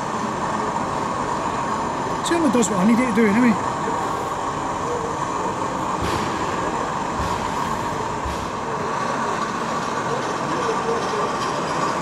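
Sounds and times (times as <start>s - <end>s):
model locomotive humming: 0.0s - 12.0s.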